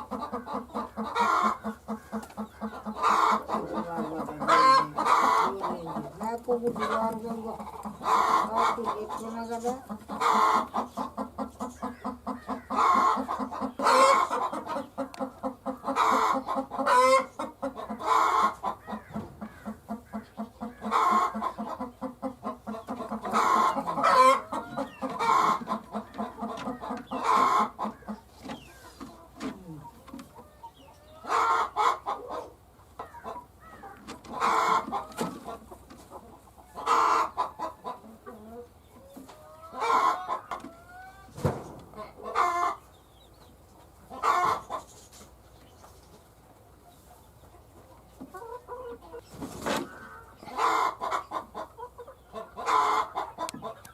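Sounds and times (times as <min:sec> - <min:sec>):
hen clucking: 0:00.0 - 0:53.9.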